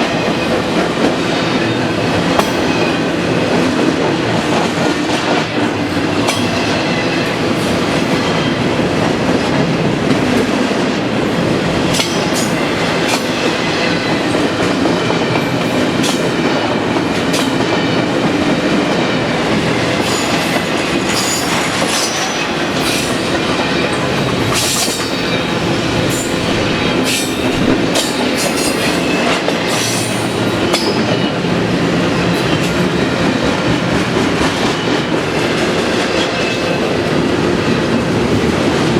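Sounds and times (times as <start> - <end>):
train cars clicking and clanking: 0.0 - 38.9
train wheels rumbling on rail: 0.0 - 38.9.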